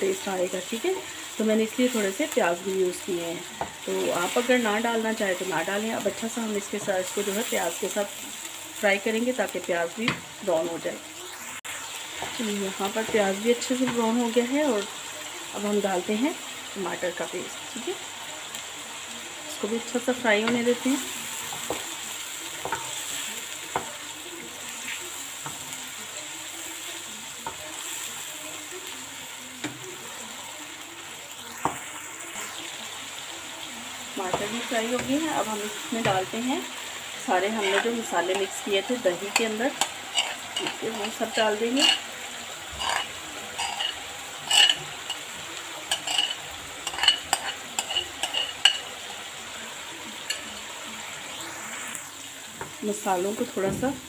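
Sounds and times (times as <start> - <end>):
chicken sizzling in a pan: 0.0 - 54.0.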